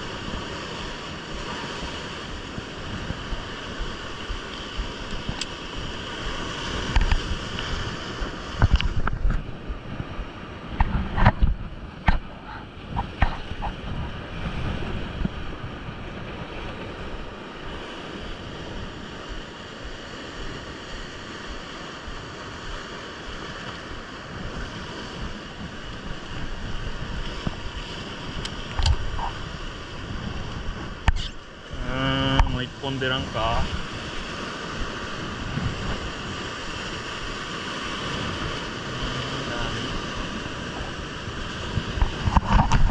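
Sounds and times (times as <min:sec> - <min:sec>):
surf breaking over rocks: 0:00.0 - 0:42.9
wind buffeting microphone: 0:00.0 - 0:42.9.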